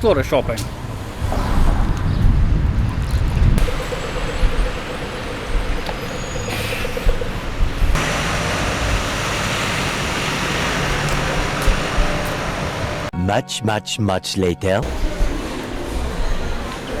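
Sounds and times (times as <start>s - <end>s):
road traffic passing: 0.0s - 13.1s, 14.8s - 17.0s.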